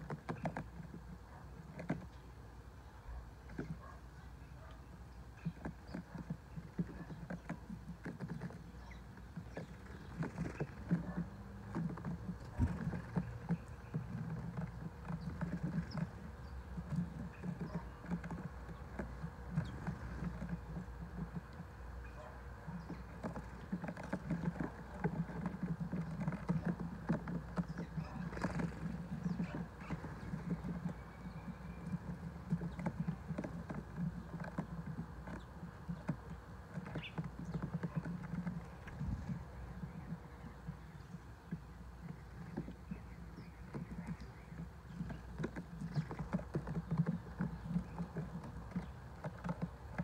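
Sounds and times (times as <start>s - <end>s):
sparrows pecking on a plate: 0.0s - 50.0s.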